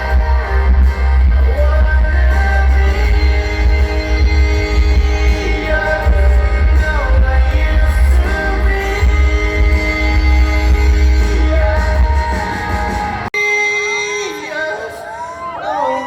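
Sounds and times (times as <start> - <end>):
loud live concert music: 0.0 - 16.0
person singing: 0.0 - 16.0.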